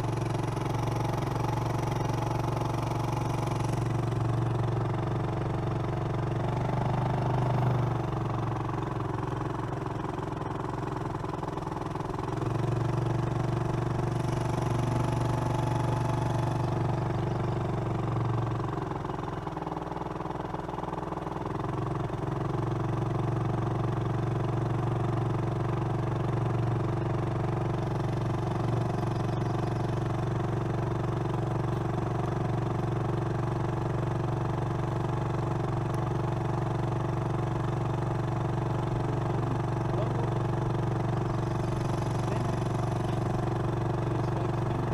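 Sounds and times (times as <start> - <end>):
vehicle engine at low revs: 0.0 - 44.9.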